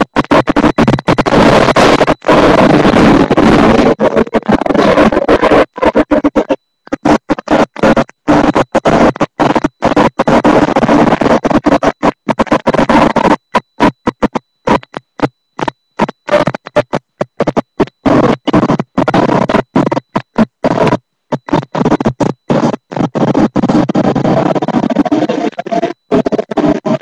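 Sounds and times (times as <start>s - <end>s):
loud glitching noise: 0.0s - 27.0s.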